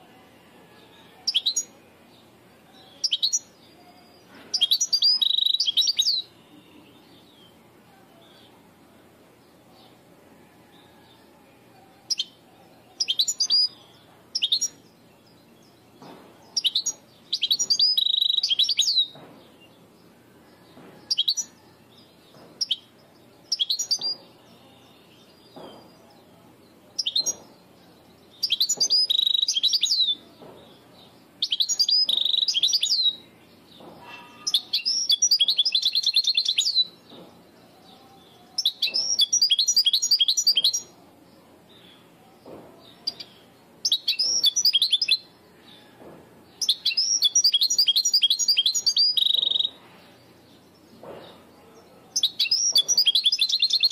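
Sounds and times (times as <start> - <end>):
goldfinch singing: 0.8 - 8.6, 12.0 - 19.8, 20.5 - 41.0, 41.7 - 45.9, 46.5 - 53.9.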